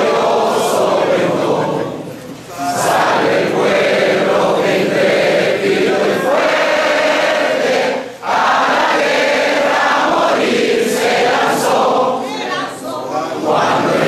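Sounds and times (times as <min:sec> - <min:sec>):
crowd singing in unison: 0:00.0 - 0:14.0.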